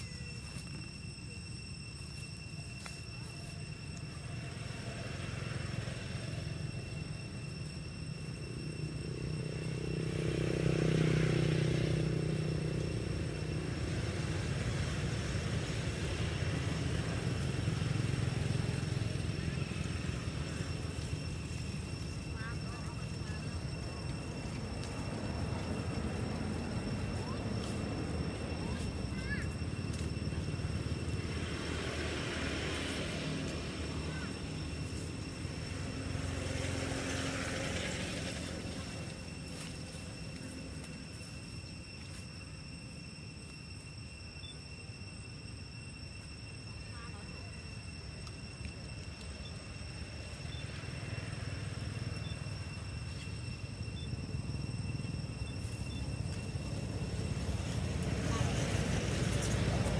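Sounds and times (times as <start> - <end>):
high-pitched whine: 0.0 - 59.9
motor vehicle rumble: 0.0 - 59.9.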